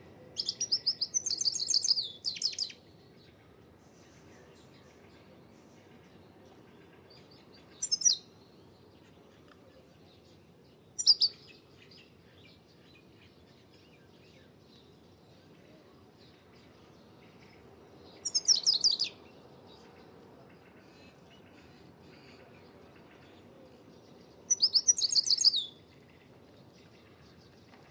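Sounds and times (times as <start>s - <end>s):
faint chirping of other birds: 0.0s - 27.9s.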